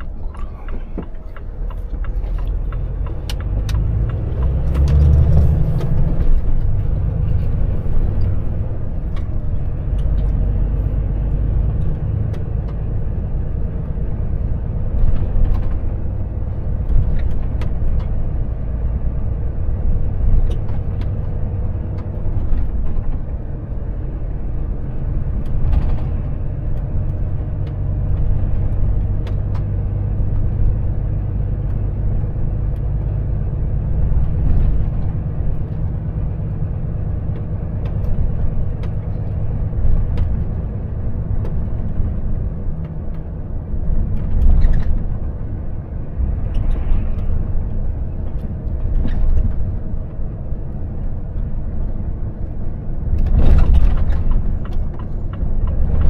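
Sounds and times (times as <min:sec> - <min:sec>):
road noise: 0:00.0 - 0:56.0
truck diesel engine droning: 0:00.0 - 0:56.0.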